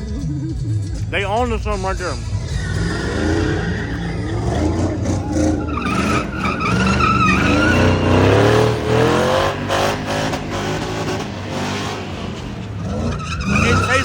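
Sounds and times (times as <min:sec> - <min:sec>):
car engine revving: 0:00.0 - 0:14.0
tires squealing and skidding: 0:01.7 - 0:14.0.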